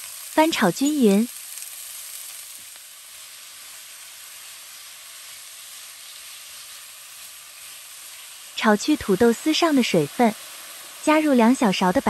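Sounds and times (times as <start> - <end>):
potatoes sizzling in hot oil: 0.0 - 12.0.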